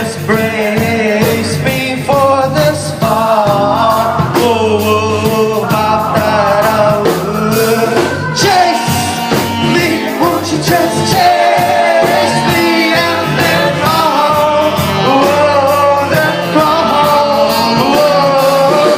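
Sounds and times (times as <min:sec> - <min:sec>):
drums: 0:00.0 - 0:18.9
guitar: 0:00.0 - 0:18.9
person singing: 0:00.0 - 0:18.9.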